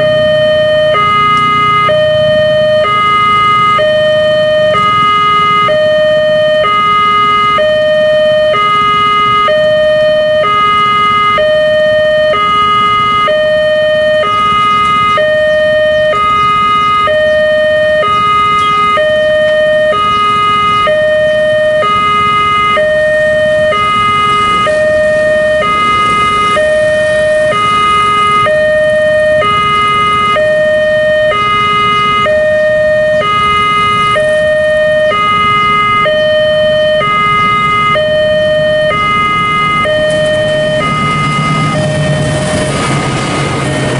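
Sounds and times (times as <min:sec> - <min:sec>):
two-tone crossing alarm: 0:00.0 - 0:43.9.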